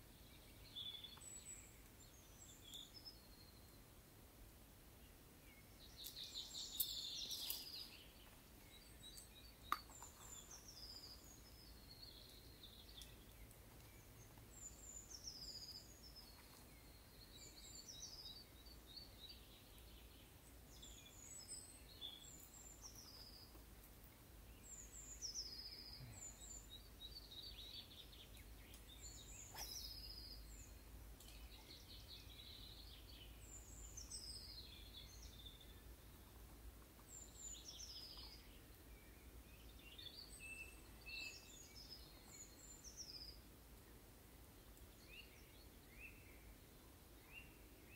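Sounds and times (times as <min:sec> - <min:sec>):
songbird singing: 0:00.0 - 0:47.9.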